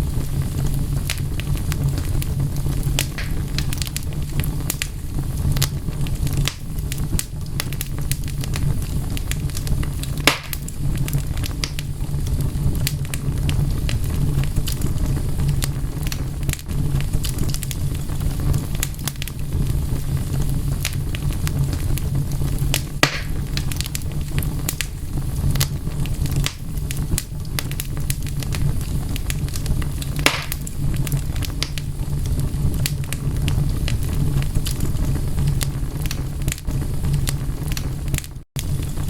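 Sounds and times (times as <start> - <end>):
low rumble: 0.0 - 37.6
wood fire crackling and popping: 0.0 - 39.0.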